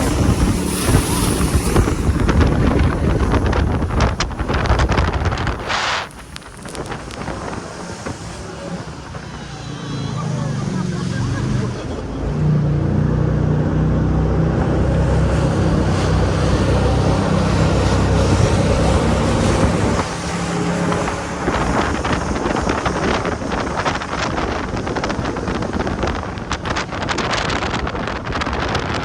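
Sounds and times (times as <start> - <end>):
boat engine running hard: 0.0 - 29.0
water noise: 0.0 - 29.0
wind rushing over microphone: 0.0 - 29.0.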